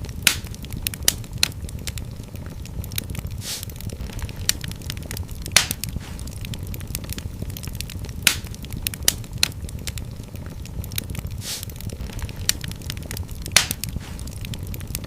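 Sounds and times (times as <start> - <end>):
fire crackling and popping: 0.0 - 15.0
fireplace flames rumbling: 0.0 - 15.0.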